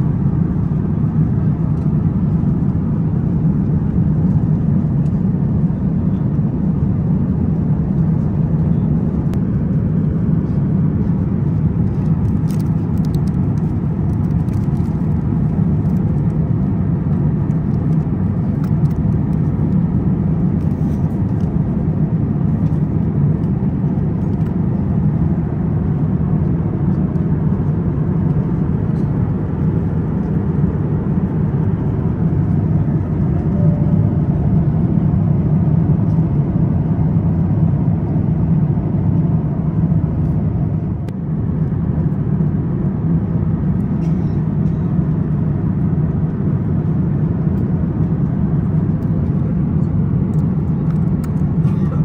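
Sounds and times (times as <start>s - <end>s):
airliner cabin rumble: 0.0s - 52.0s.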